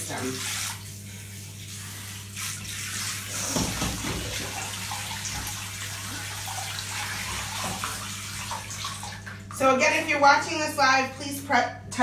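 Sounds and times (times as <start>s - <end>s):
shower water splashing into bathtub: 0.0s - 10.5s.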